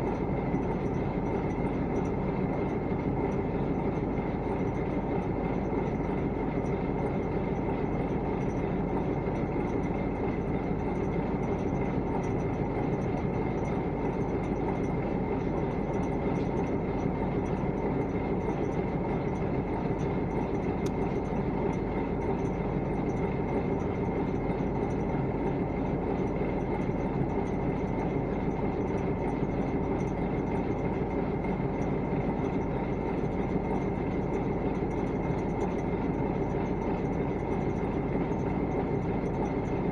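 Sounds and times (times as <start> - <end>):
faint steady whine: 0.0 - 39.9
truck engine rumble: 0.0 - 39.9.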